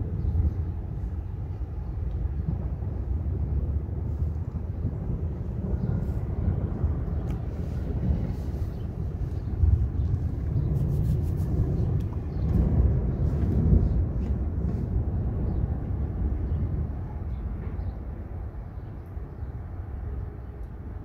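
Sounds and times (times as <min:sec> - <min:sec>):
thunder rolling: 0:00.0 - 0:18.5.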